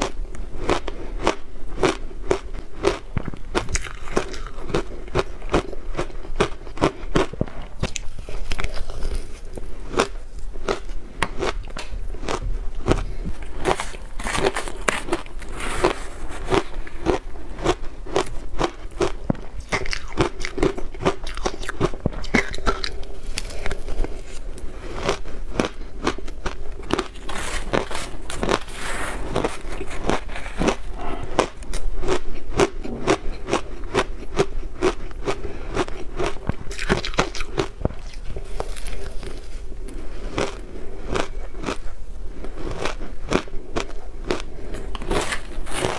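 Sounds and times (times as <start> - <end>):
ice being chewed crunching: 0.0 - 45.9.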